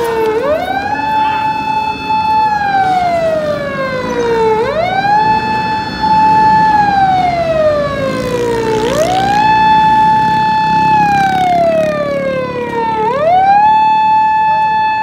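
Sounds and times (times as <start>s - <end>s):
police siren wailing: 0.0s - 15.0s.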